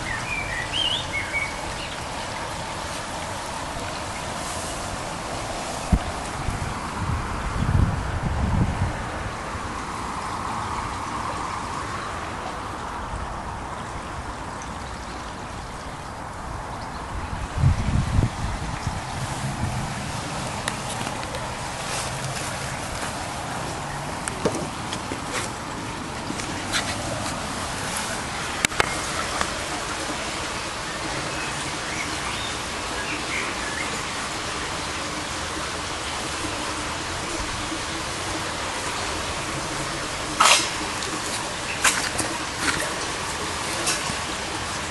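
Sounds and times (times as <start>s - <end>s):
steady rushing hiss: 0.0s - 13.7s, 16.3s - 44.9s.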